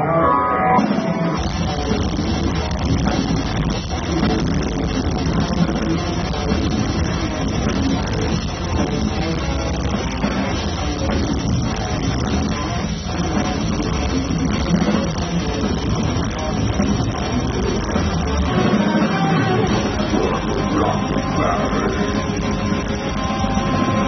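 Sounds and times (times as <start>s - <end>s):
bass guitar: 0.0s - 24.0s
distorted electric guitars: 0.0s - 24.0s
drum kit: 0.8s - 24.0s.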